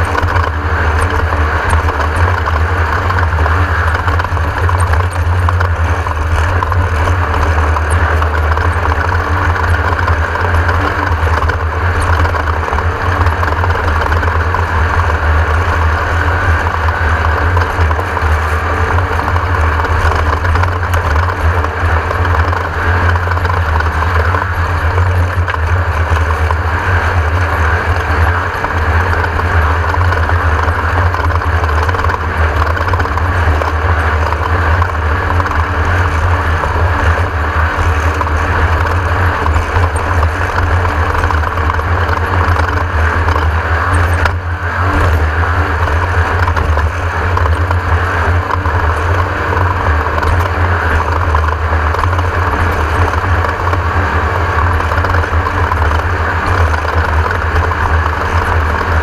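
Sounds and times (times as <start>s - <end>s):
race car engine droning: 0.0s - 59.0s.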